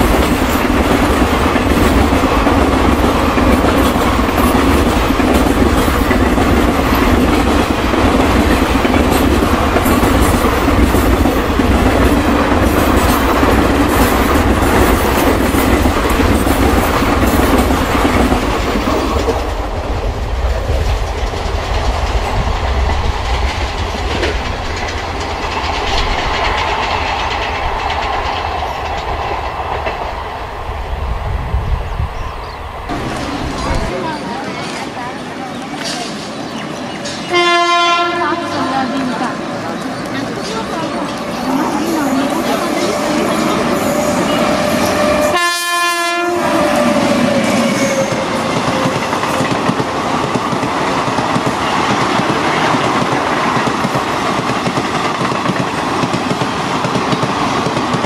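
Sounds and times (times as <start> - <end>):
train rumble: 0.0 - 58.0
train wheels clattering: 0.0 - 58.0.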